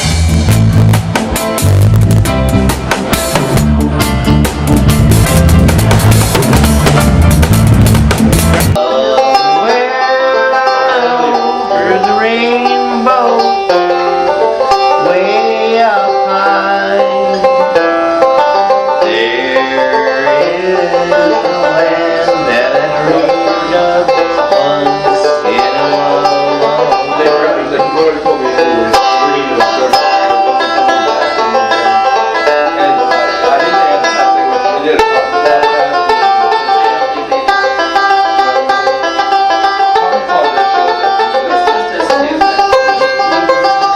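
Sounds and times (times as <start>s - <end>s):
bluegrass plucked-string picking: 0.0s - 43.9s.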